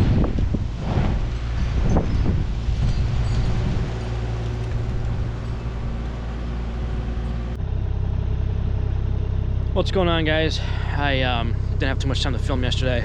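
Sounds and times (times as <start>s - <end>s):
diesel engine idling: 2.5s - 13.0s.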